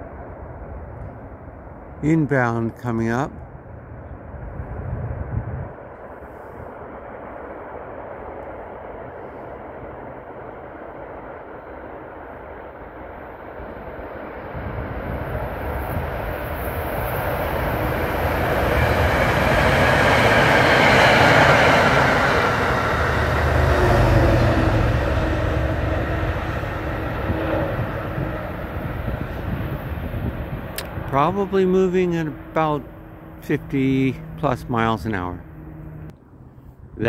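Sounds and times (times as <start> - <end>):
train wheels rumbling on rails: 4.7 - 36.1.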